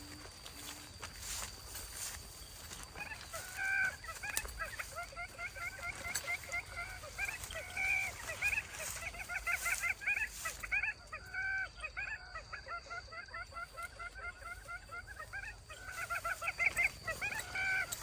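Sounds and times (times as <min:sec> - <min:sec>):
fowl calling: 0:00.0 - 0:18.0.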